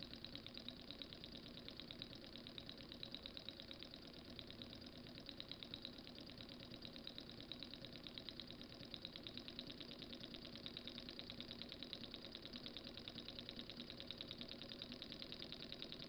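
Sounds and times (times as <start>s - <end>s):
small engine mechanical ticking: 0.1s - 16.0s.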